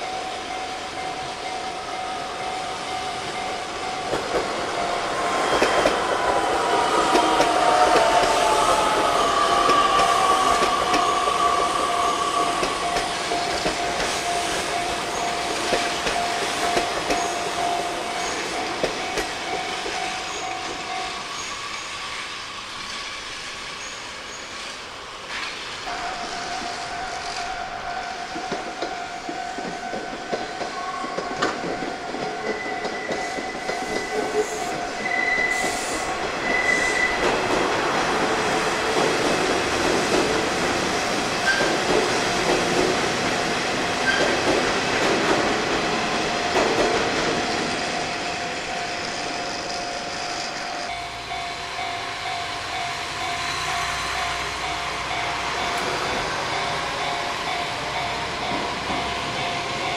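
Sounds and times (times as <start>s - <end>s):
level crossing warning bell: 0.0s - 22.0s, 25.9s - 59.9s
electric train running past: 0.0s - 59.9s.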